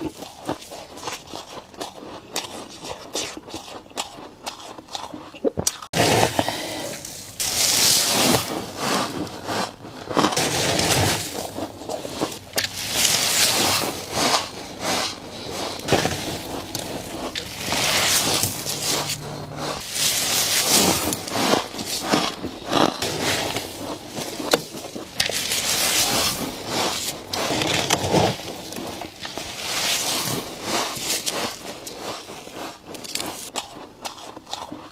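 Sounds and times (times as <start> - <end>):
crackly chewing: 0.0 - 34.9
frost crunching bites: 0.0 - 34.9.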